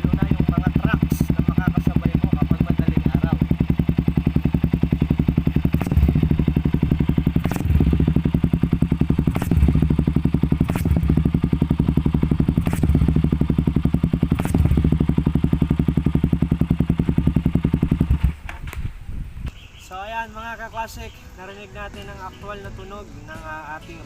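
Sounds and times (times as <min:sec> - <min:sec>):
motorcycle idling: 0:00.0 - 0:24.0.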